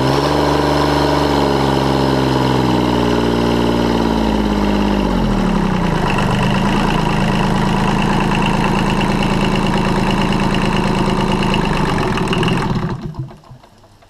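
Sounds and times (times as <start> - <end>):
diesel engine running: 0.0 - 13.6.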